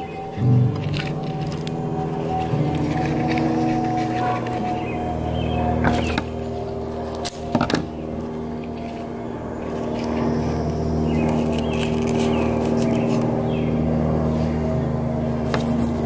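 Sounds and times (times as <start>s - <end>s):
ambient droning music: 0.0s - 16.0s.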